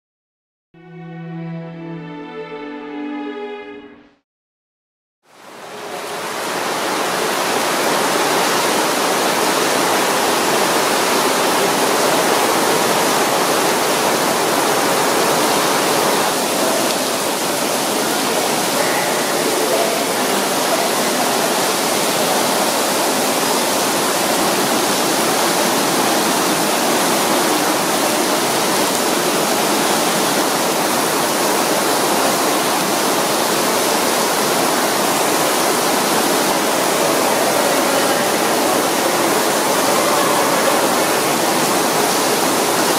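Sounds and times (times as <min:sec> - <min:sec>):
indoor rain hissing: 0:05.3 - 0:42.9.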